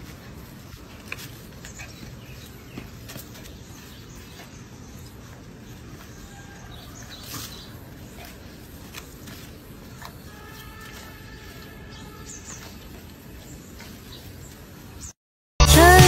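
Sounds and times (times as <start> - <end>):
outdoor background noise: 0.0 - 15.2.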